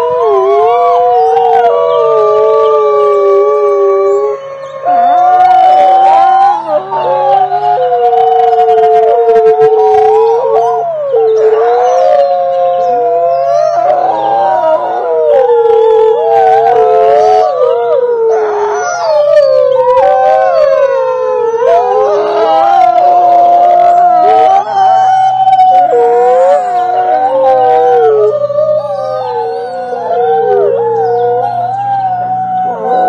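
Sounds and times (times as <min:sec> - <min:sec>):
wolves howling: 0:00.0 - 0:33.0.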